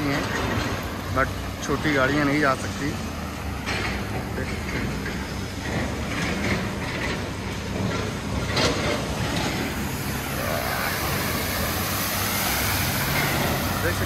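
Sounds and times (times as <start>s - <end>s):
car driving through water spray: 0.0s - 14.0s
car engine rumble: 0.0s - 14.0s.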